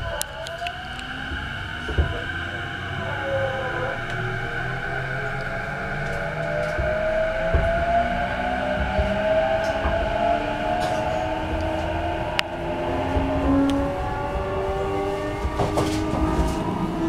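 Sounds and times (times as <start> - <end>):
train motor whine: 0.0 - 17.0
wheels rumbling on rail: 0.0 - 17.0.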